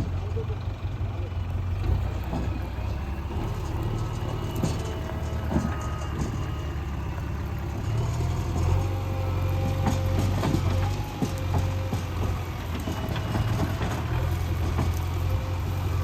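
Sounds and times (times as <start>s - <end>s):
diesel engine running: 0.0s - 16.0s
short knocks and clanks: 1.8s - 15.8s.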